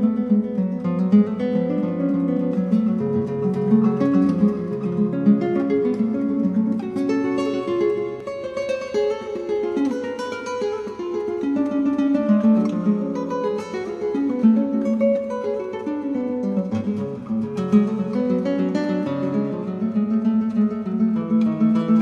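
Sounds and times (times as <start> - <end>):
acoustic guitar melody: 0.0 - 22.0.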